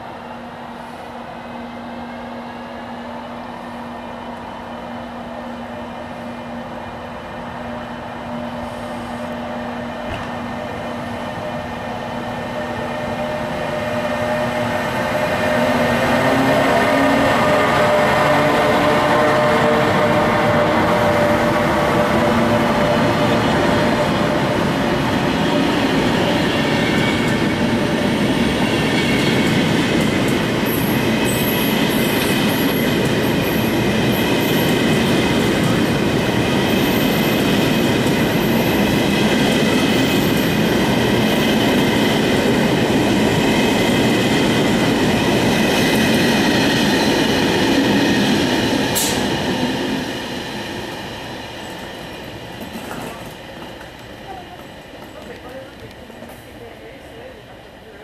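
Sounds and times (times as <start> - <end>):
train rolling past: 0.0 - 58.0.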